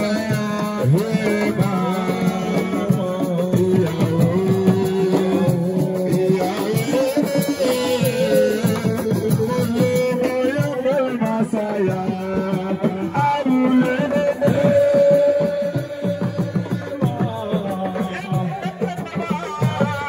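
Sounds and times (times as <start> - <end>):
music with drums: 0.0 - 20.0.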